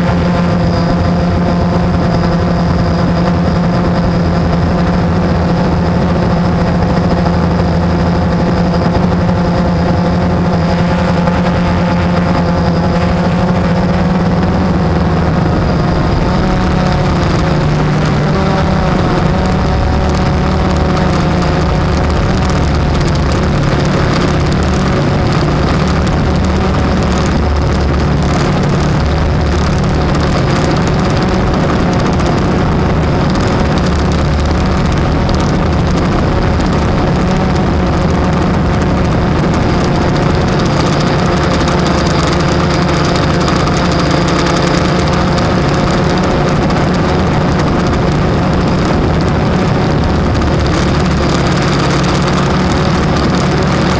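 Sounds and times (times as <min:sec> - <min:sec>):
quadcopter motors droning: 0:00.0 - 0:53.9.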